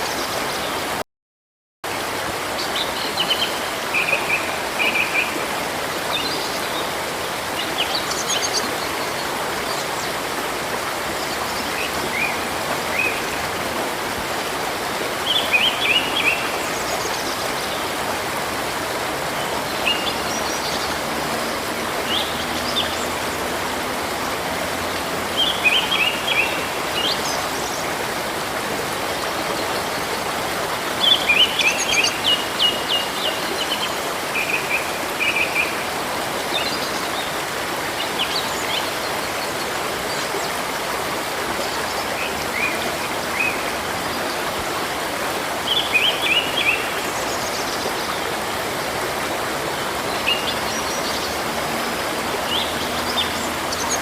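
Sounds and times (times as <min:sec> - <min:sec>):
flowing river rushing: 0:00.0 - 0:01.0, 0:01.9 - 0:54.0.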